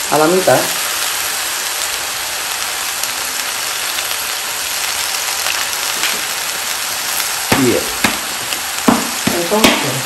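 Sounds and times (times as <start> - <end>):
food sizzling in hot oil: 0.0 - 10.0
oil crackles: 0.0 - 10.0.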